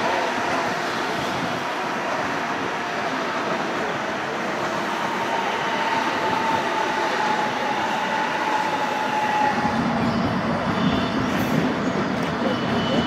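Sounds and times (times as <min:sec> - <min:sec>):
train rolling past on rails: 0:00.0 - 0:13.0.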